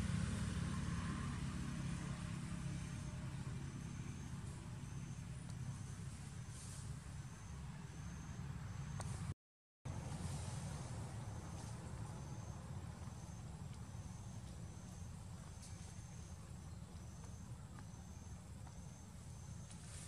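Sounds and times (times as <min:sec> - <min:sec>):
low steady rumble: 0:00.0 - 0:09.3, 0:09.9 - 0:20.0.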